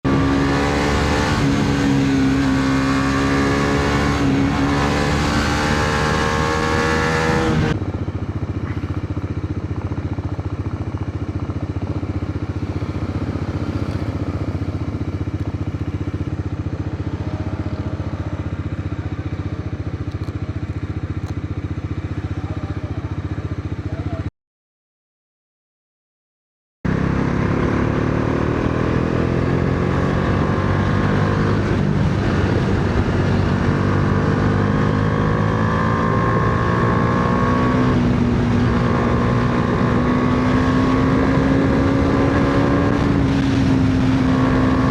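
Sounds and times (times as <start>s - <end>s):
motorcycle engine running: 0.0s - 24.3s, 26.9s - 44.9s.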